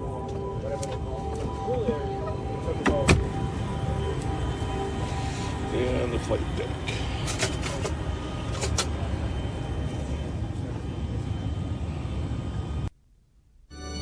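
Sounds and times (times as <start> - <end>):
aircraft cabin rushing hum: 0.0 - 12.9.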